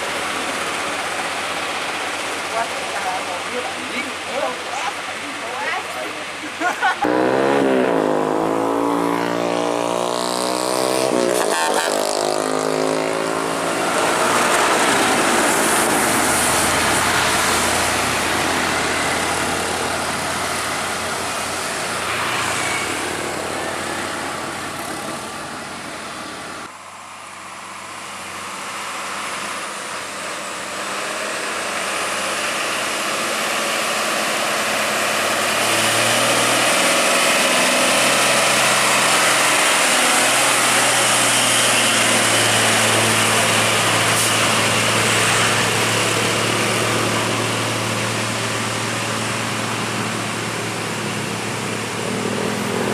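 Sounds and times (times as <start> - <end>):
heavy trucks passing: 0.0 - 52.9.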